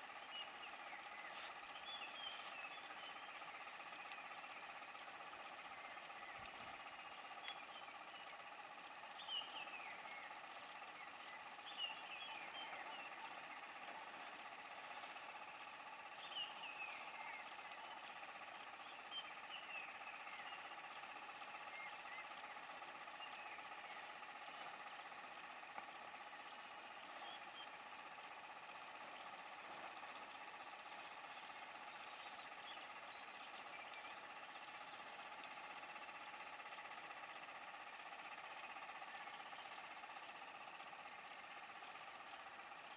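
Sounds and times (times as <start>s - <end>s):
insect trilling: 0.0s - 42.9s.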